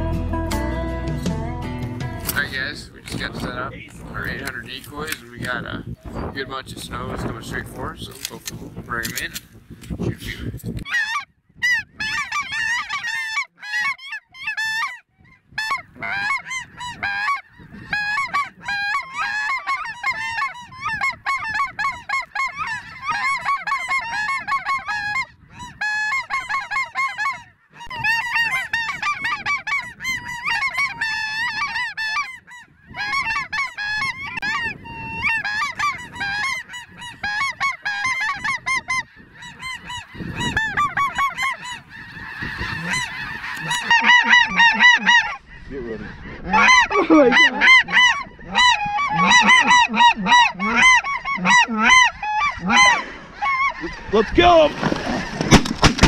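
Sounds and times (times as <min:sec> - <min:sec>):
geese honking: 0:10.8 - 0:56.0.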